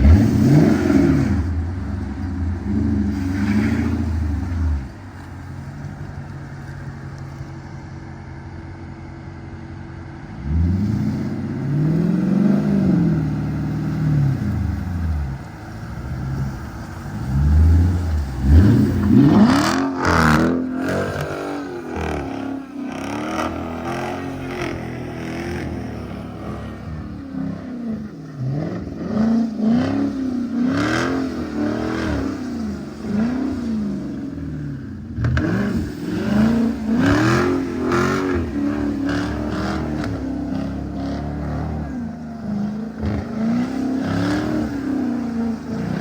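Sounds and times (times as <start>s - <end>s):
car engine revving hard: 0.0s - 6.3s, 10.4s - 46.0s.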